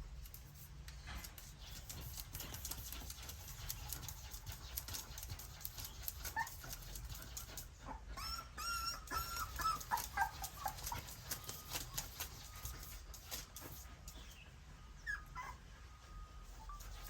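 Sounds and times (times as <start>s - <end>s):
puppies whimpering and squeaking: 1.8s - 17.0s.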